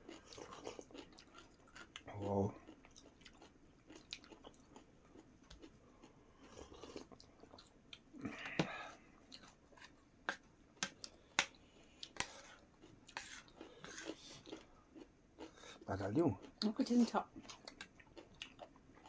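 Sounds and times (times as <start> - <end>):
chewing and mouth noises: 0.0 - 8.6, 9.2 - 19.0.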